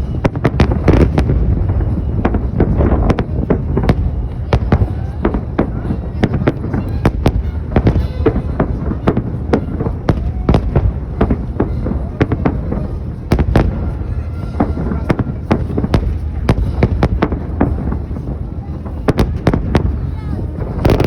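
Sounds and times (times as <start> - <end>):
fireworks bangs and crackles: 0.0 - 21.0
fireworks low rumble: 0.0 - 21.0.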